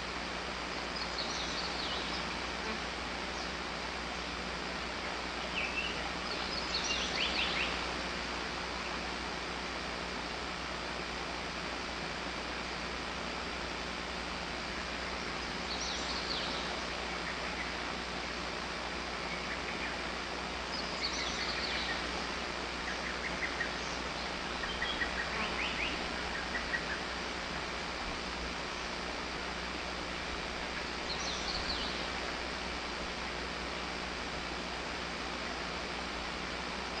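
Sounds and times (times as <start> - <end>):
steady rushing hiss: 0.0 - 37.0
wild birds singing: 0.2 - 11.1, 12.5 - 37.0.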